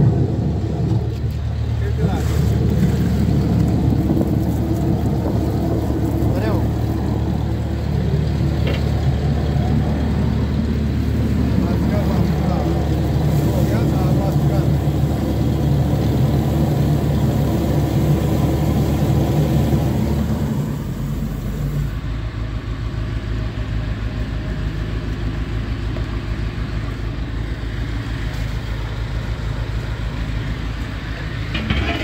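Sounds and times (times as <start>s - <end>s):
drain-jetting machine engine running: 0.0s - 32.0s.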